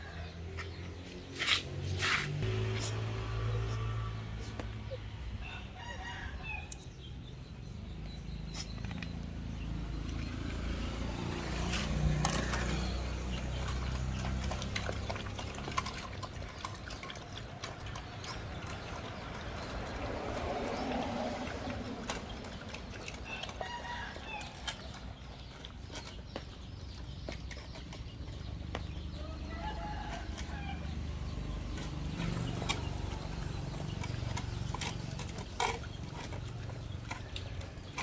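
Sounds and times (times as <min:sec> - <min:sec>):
puppies lapping and chewing: 0:07.0 - 0:38.0.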